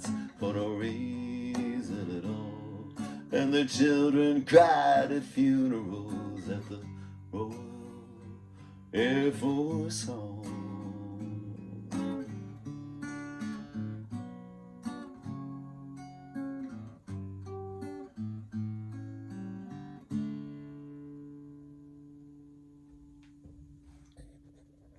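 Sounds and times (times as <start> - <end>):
acoustic guitar chords: 0.0 - 23.6.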